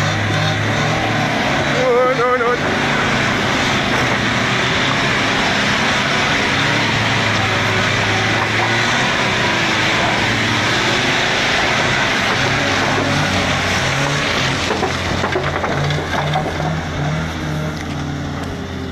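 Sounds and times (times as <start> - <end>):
rushing noise: 0.0 - 18.9
vehicle engine under load: 0.0 - 18.9.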